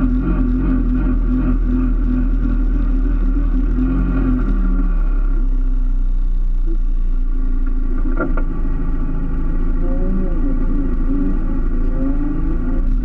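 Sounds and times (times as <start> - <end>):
rally car engine running: 0.0 - 13.0.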